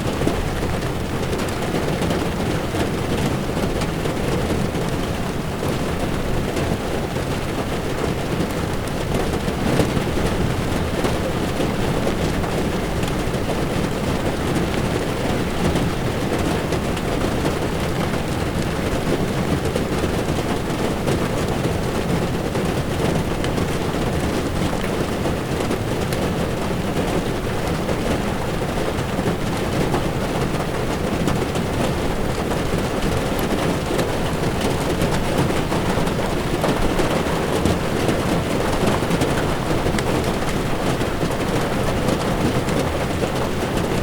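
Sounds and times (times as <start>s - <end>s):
heavy rain on windshield: 0.0s - 44.0s
tyres rumbling on wet road: 0.0s - 44.0s.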